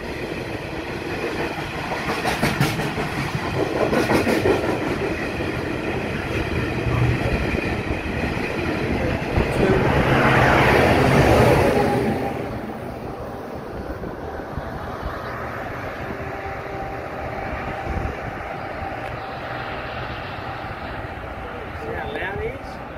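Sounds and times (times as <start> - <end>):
freight train rumble: 0.0 - 22.9.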